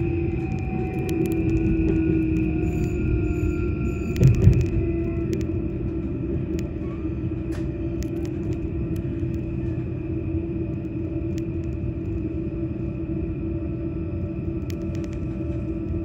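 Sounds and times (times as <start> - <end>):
constant hum: 0.0 - 16.0
train rumble inside carriage: 0.0 - 16.0.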